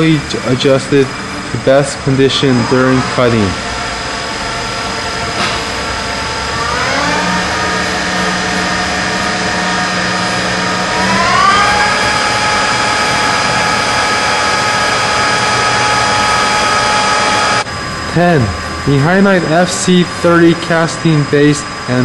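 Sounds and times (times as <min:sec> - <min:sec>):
lathe spindle whine: 0:00.0 - 0:22.0.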